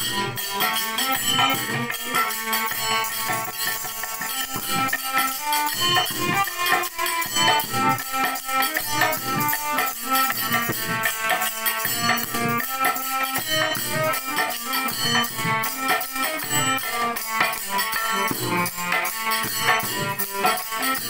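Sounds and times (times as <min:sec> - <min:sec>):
hand percussion jingling: 0:00.0 - 0:21.0
harmonium melody: 0:00.0 - 0:21.0.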